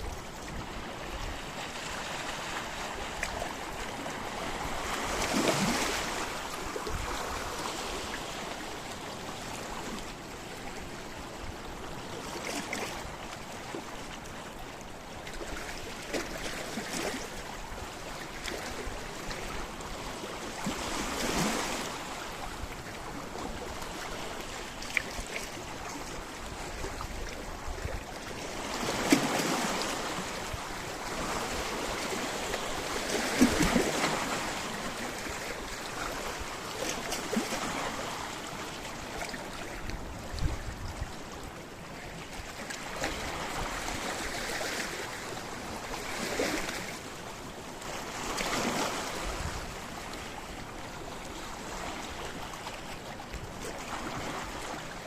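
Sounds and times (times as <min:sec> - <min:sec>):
waves washing onto rocks: 0:00.0 - 0:13.6, 0:15.4 - 0:55.0.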